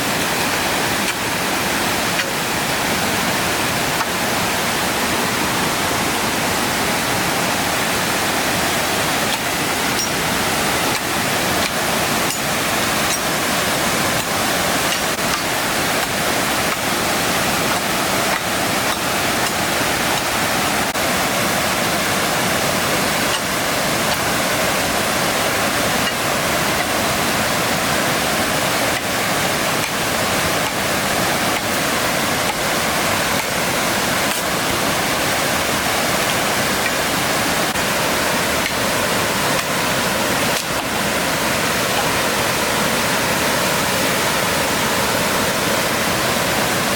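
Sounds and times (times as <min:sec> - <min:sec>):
waterfall roaring: 0:00.0 - 0:46.9.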